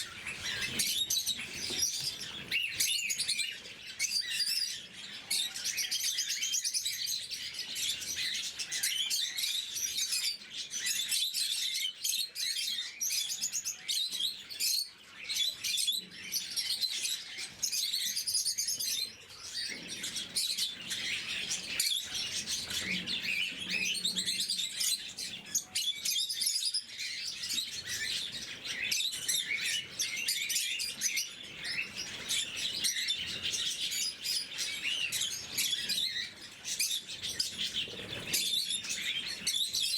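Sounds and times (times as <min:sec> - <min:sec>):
lovebirds chirping shrilly: 0:00.0 - 0:11.1, 0:12.9 - 0:39.9.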